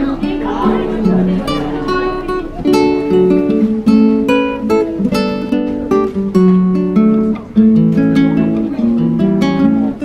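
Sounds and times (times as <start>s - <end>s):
plucked string instrumental music: 0.0s - 10.0s.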